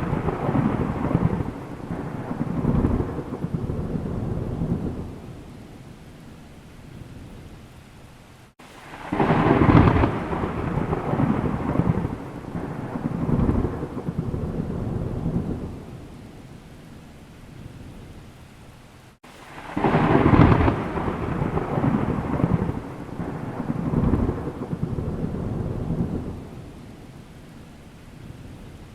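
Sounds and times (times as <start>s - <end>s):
thunder rumbling: 0.0s - 6.0s, 8.8s - 18.4s, 19.4s - 28.9s
steady rain: 0.0s - 28.9s.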